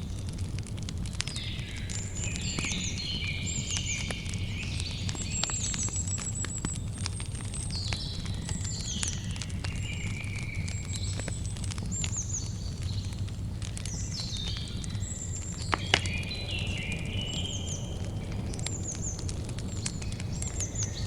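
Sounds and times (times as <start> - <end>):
campfire crackling and popping: 0.0 - 21.0
small birds chirping: 0.0 - 21.0.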